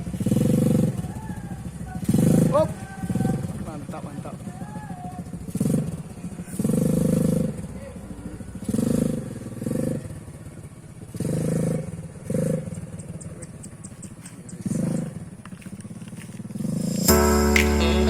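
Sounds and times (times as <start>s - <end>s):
atv engine revving: 0.0s - 18.0s.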